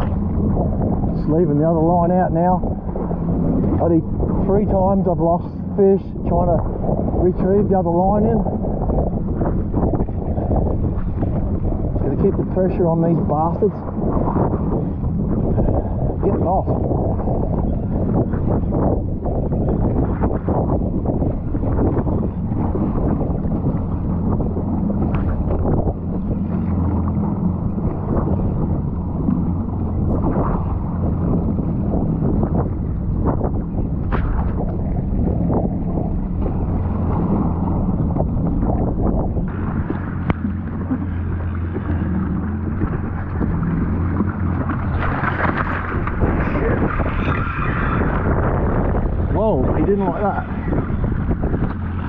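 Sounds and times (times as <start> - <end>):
jet ski engine idling: 0.0 - 52.0
low rumble of wind and sea: 0.0 - 52.0
wind buffeting microphone: 0.0 - 52.0.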